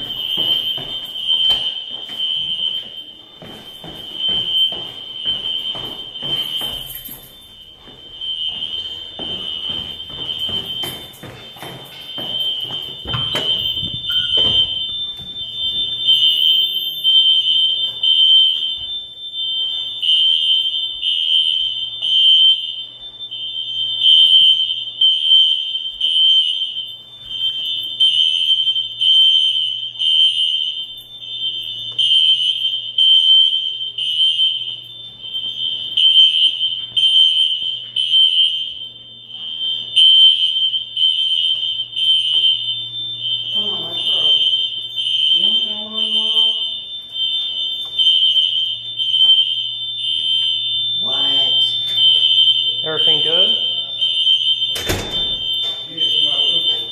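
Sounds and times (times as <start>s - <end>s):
fire alarm pulsing tone: 0.0s - 56.9s.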